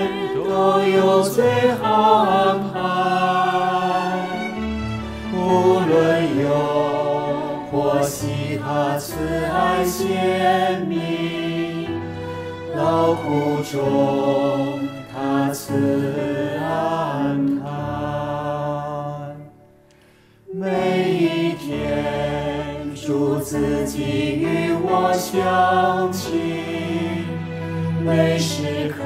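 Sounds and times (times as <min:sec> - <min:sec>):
musical accompaniment: 0:00.0 - 0:29.0
voices singing a hymn: 0:00.0 - 0:29.0.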